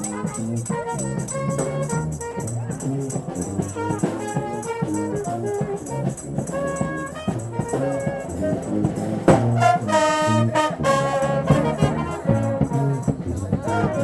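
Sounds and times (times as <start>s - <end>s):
brass band playing jazz: 0.0s - 14.0s
trombone: 0.0s - 14.0s
trumpet: 0.0s - 14.0s.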